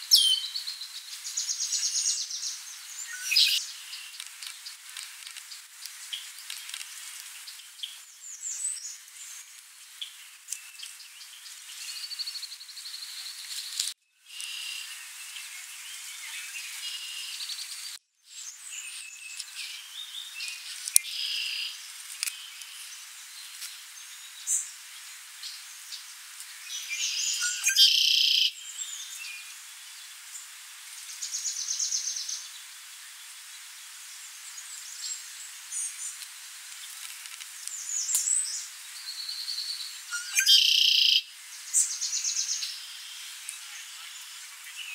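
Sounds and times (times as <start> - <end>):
songbirds singing and calling: 0.0 - 44.9.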